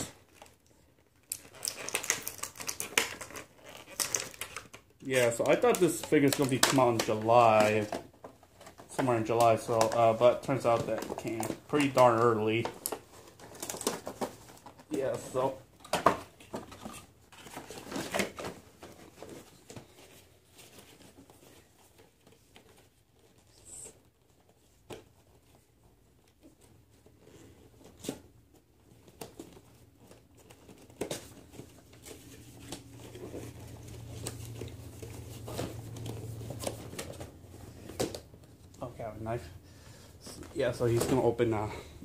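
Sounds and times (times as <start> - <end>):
packaging rustling and crinkling: 0.0 - 42.0.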